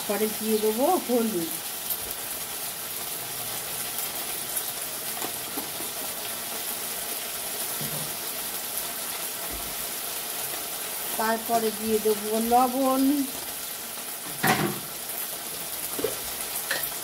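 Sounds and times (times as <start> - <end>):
oil sizzling in a wok: 0.0 - 17.0.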